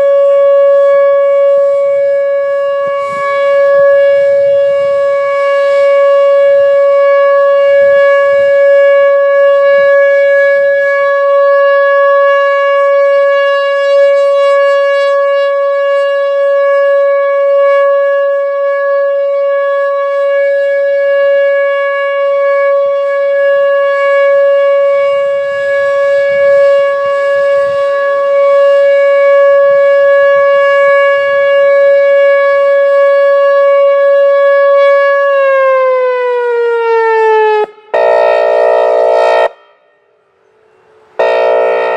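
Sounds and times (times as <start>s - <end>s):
warning siren steady pitch: 0.0s - 41.9s.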